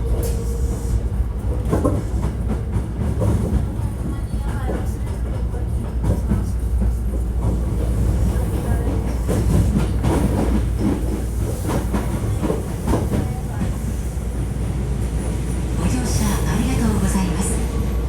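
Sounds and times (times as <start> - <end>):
train car rumbling: 0.0 - 18.0.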